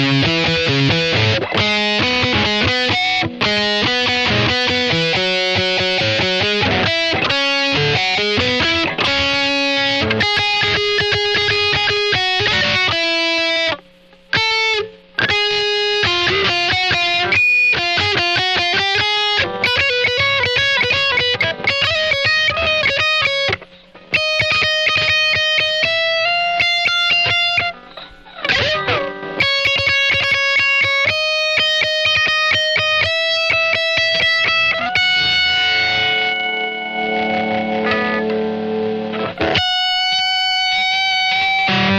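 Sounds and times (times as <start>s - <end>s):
electric guitar notes and chords: 0.0s - 41.9s.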